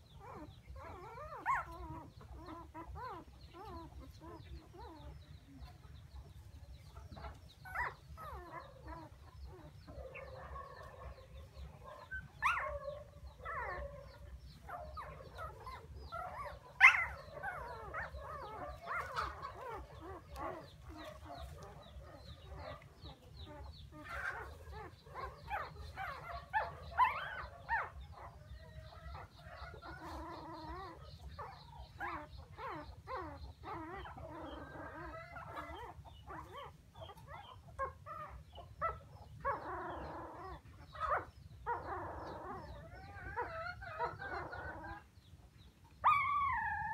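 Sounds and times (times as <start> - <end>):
puppies whimpering and crying: 0.0 - 46.9.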